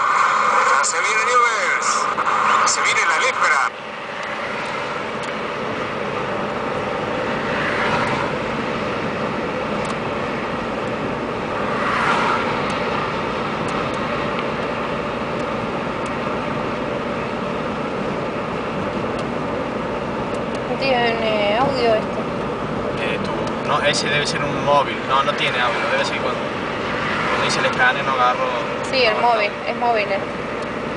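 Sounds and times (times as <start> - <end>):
road and engine noise in car: 0.0 - 30.9.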